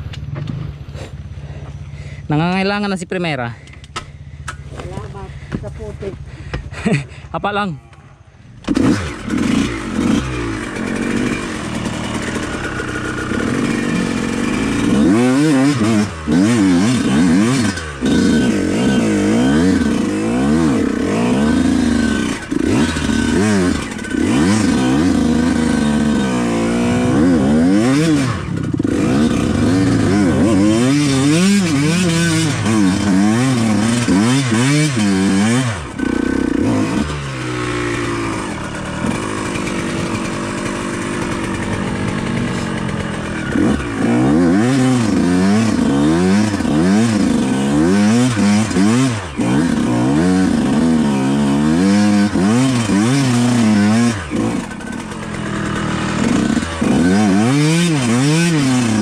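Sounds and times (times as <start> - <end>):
dirt bike engine revving: 8.4 - 59.0.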